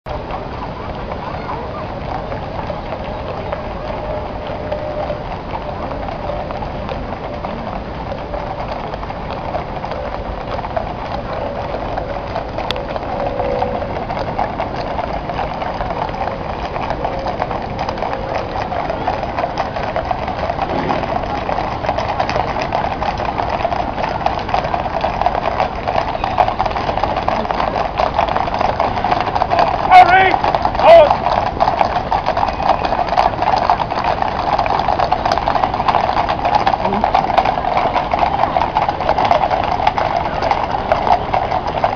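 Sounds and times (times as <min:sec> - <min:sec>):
horse hooves clip-clopping on tarmac: 0:00.1 - 0:41.9.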